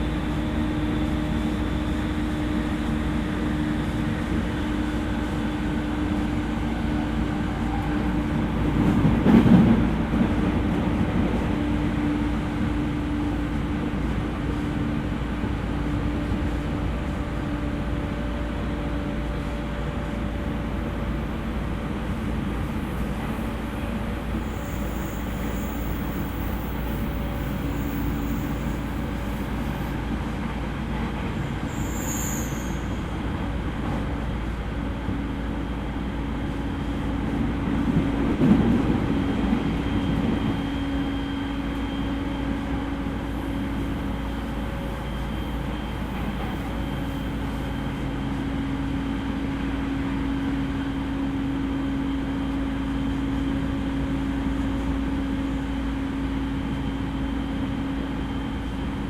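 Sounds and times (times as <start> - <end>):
wheels rumbling on rails: 0.0 - 31.8, 32.8 - 59.0
train interior hum: 0.0 - 59.0.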